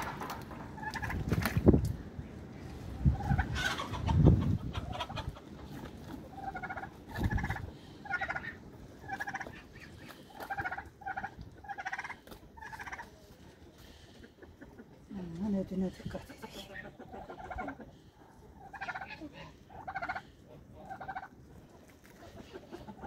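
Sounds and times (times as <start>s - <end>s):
poultry calling: 3.0s - 15.0s, 15.8s - 23.0s.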